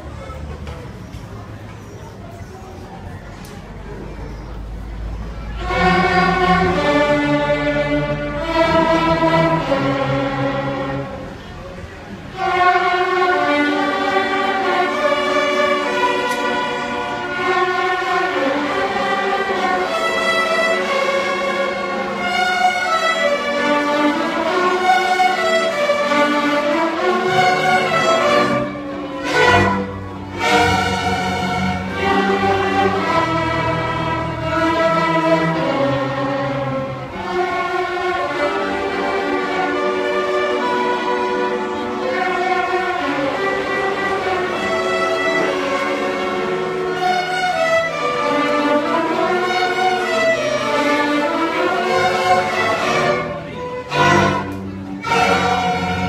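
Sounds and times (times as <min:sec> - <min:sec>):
orchestra strings playing melody: 0:00.0 - 0:56.0.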